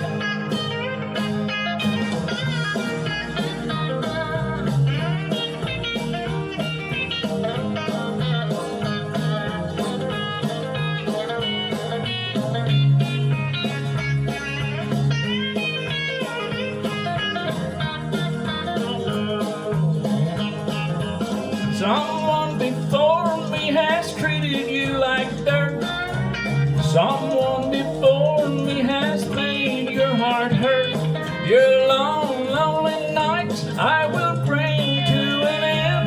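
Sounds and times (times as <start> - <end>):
bass and steady beat: 0.0 - 36.0
country guitar solo: 0.0 - 36.0.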